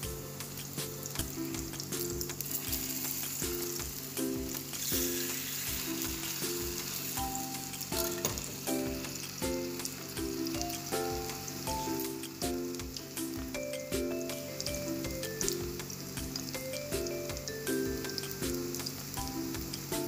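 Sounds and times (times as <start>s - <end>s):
background music with steady beat: 0.0s - 20.0s
meat sizzling in frying pan: 0.1s - 20.0s.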